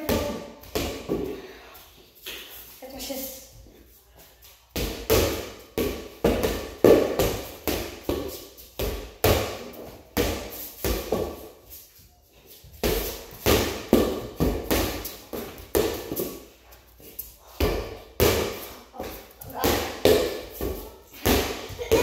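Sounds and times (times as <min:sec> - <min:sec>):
ball smacking concrete floor: 0:00.0 - 0:01.6, 0:02.2 - 0:02.7, 0:04.5 - 0:11.6, 0:12.6 - 0:22.0.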